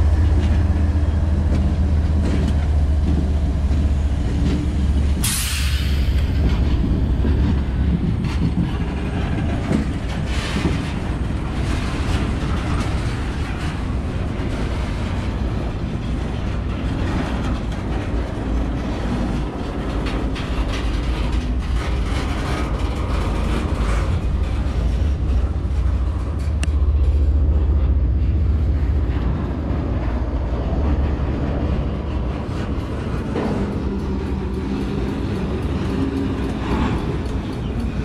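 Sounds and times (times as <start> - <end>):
train passing with low rumble: 0.0 - 38.0.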